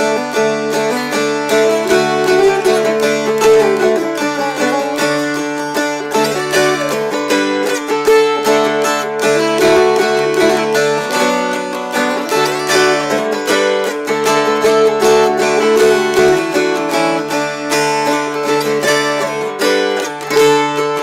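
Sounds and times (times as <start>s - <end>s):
mountain dulcimers strummed: 0.0s - 21.0s.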